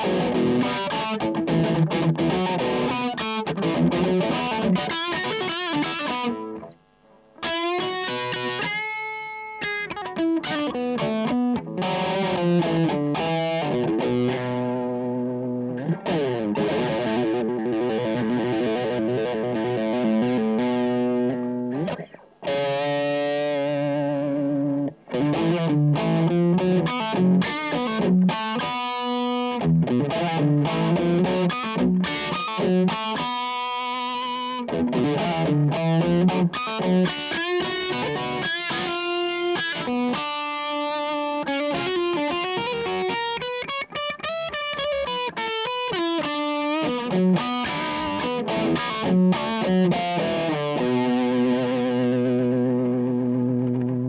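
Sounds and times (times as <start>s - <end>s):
electric guitar lead playing: 0.0s - 54.0s.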